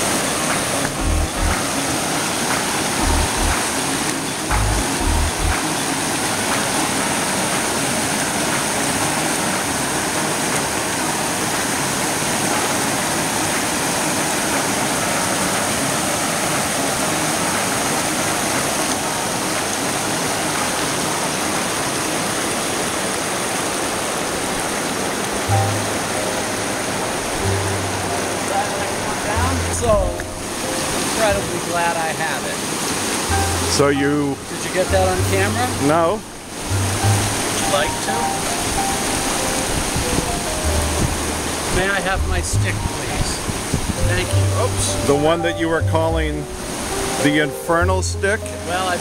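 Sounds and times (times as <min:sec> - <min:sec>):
water rushing over rocks: 0:00.0 - 0:49.0.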